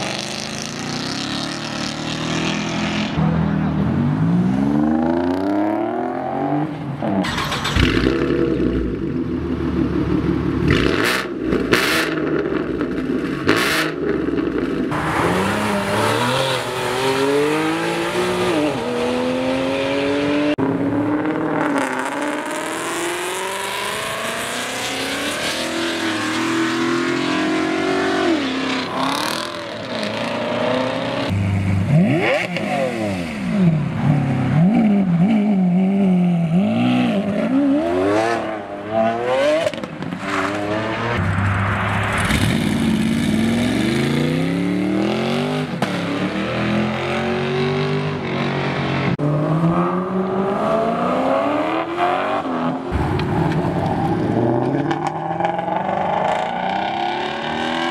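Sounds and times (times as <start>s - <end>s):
car engines revving: 0.0s - 57.9s.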